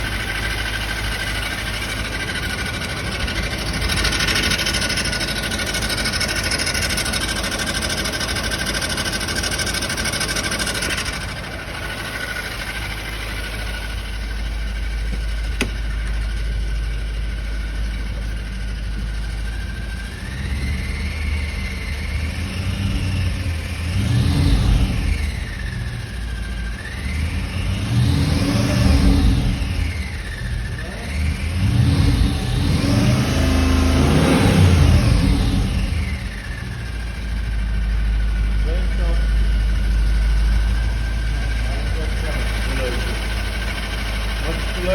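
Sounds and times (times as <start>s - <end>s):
car engine idling: 0.0s - 44.9s
engine revving: 0.0s - 44.9s.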